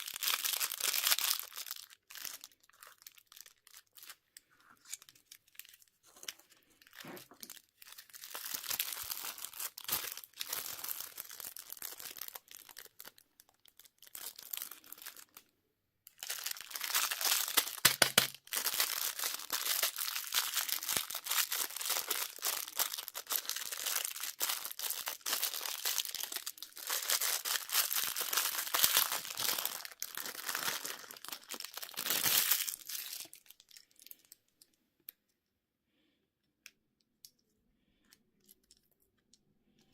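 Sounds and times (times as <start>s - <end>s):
candy wrapper crinkling: 0.0s - 15.5s, 16.1s - 34.7s.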